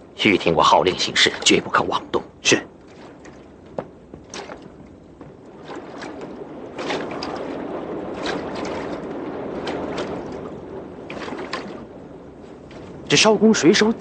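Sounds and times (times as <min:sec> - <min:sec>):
water lapping and splashing: 0:00.0 - 0:14.0.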